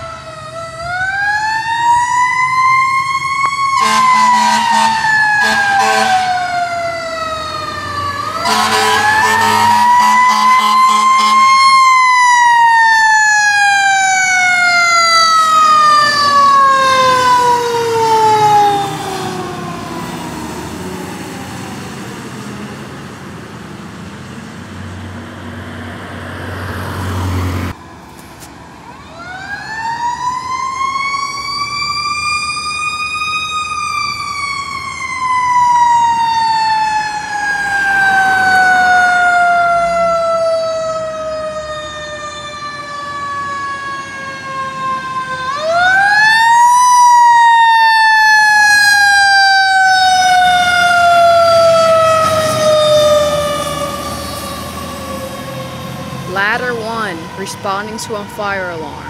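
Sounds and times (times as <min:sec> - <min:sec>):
fire truck siren winding: 0:00.0 - 0:21.9, 0:29.0 - 0:59.0.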